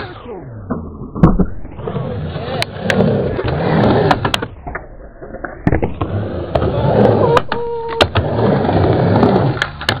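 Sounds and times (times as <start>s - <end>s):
skateboard wheels rolling on ramp: 0.0s - 10.0s.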